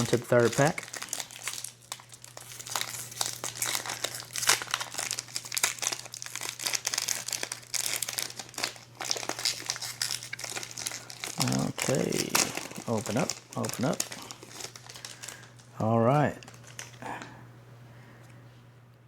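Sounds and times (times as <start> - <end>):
wrapper crinkling: 0.0 - 17.0.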